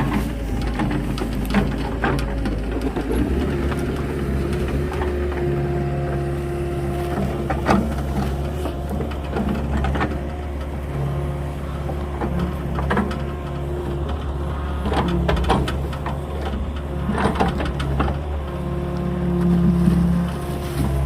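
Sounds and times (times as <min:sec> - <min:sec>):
knocks and clatters: 0:00.0 - 0:06.2, 0:07.0 - 0:18.5
excavator engine running: 0:00.0 - 0:21.0
humming tone: 0:03.0 - 0:21.0.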